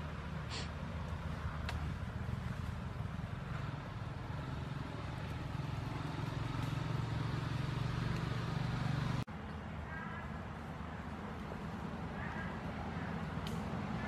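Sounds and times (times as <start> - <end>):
motor vehicle engine rumbling: 0.0 - 14.0.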